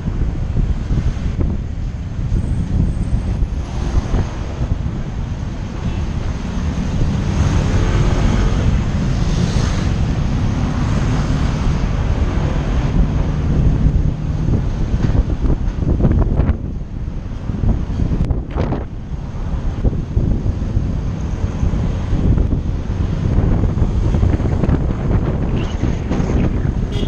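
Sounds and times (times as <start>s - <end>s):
vehicle engine drone: 0.0s - 27.0s
wind buffeting microphone: 0.0s - 27.0s.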